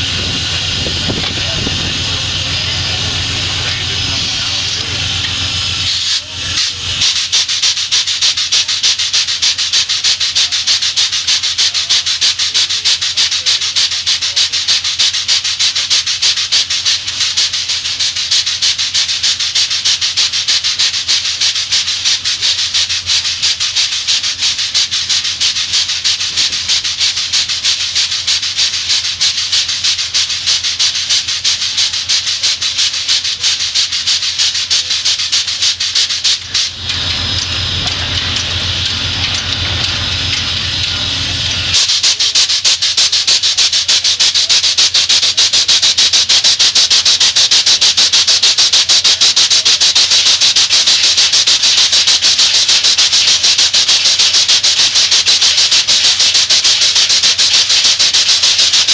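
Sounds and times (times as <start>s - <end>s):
steam locomotive chuffing: 0.0s - 58.9s.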